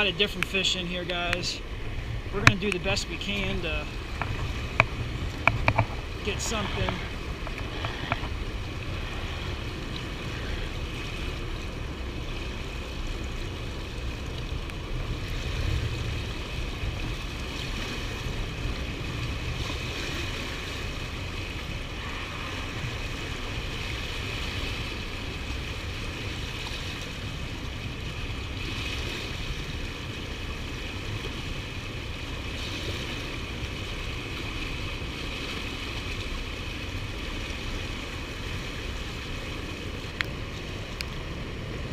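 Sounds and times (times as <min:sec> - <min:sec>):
fast river water rushing: 0:00.0 - 0:41.9
wind rumbling on microphone: 0:00.0 - 0:41.9.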